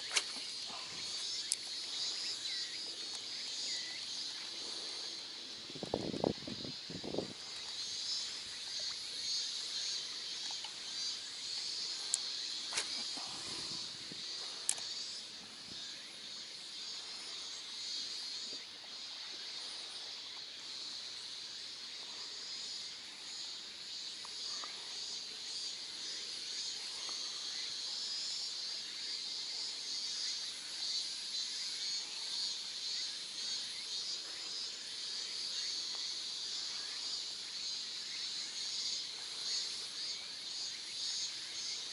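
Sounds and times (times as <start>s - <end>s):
insects chorus: 0.0s - 41.9s.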